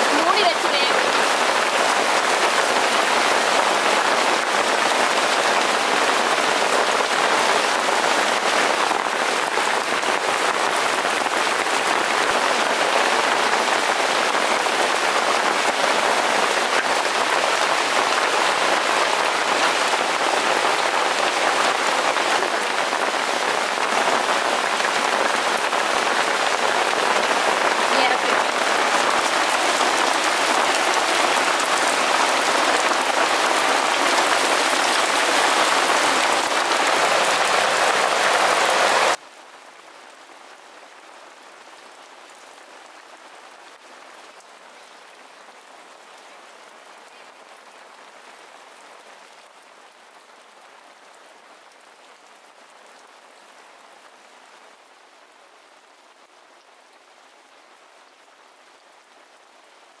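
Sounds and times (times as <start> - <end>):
rain hiss: 0.0 - 60.0.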